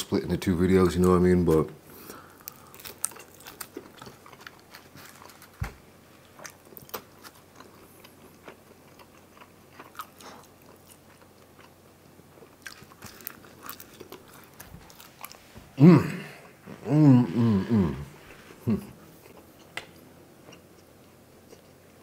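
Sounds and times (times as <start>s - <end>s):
crunchy chewing of pizza crust: 2.0s - 22.0s.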